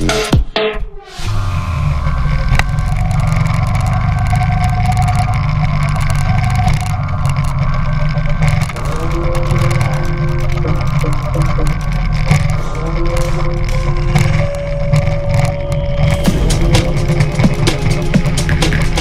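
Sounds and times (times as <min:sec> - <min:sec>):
steady low rumble: 0:01.1 - 0:19.0
go-kart engine running: 0:01.3 - 0:19.0.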